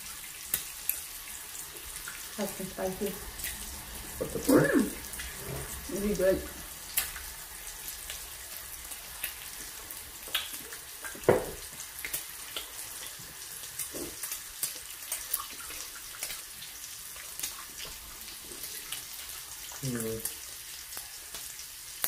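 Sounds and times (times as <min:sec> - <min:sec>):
meat sizzling on grill: 0:00.0 - 0:22.0.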